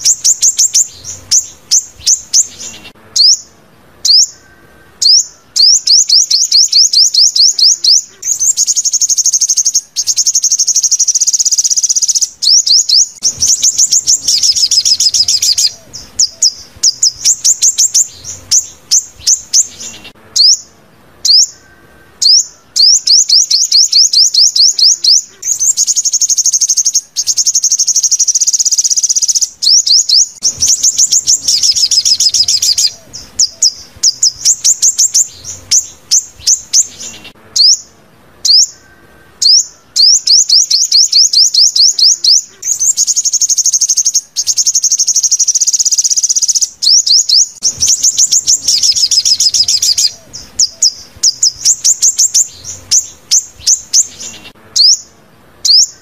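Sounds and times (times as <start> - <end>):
bird chirps and trills: 0.0 - 56.0.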